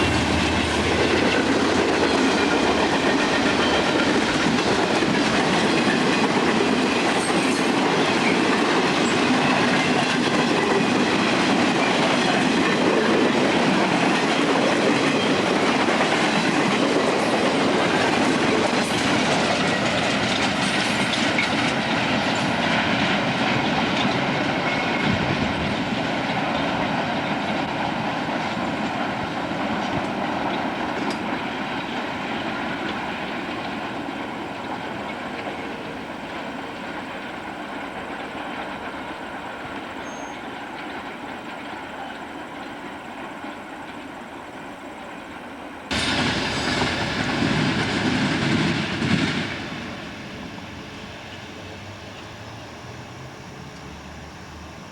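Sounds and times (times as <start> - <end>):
train cars rolling on rails: 0.0 - 54.9.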